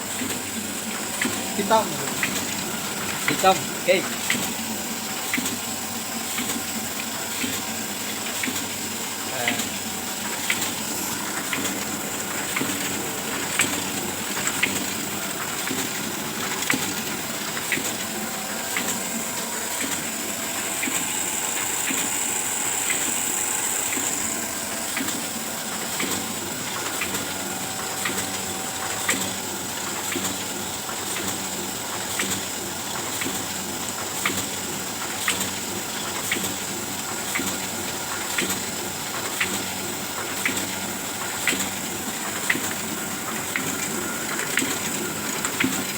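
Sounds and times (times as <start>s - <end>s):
printing press running: 0.0s - 45.9s
regular mechanical click: 0.2s - 4.6s, 5.2s - 5.7s, 6.3s - 8.8s, 9.4s - 45.9s.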